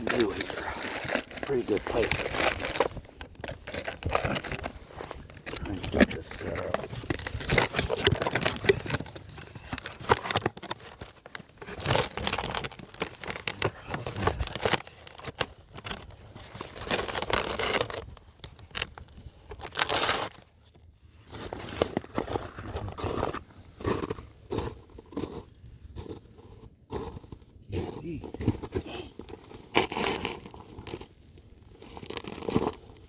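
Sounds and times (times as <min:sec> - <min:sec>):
gear rustling and crunching: 0:00.0 - 0:33.0.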